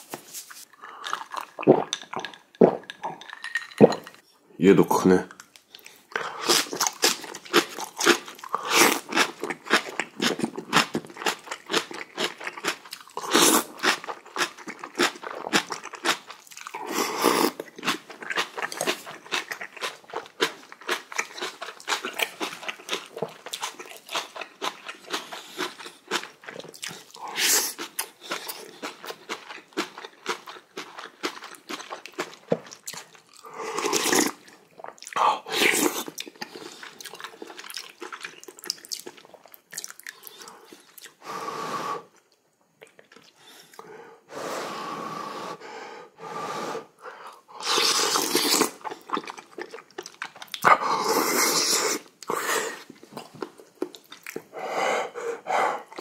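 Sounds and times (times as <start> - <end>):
person chewing and crunching food: 0.0 - 4.2, 5.4 - 41.3, 42.1 - 43.9, 47.2 - 56.0.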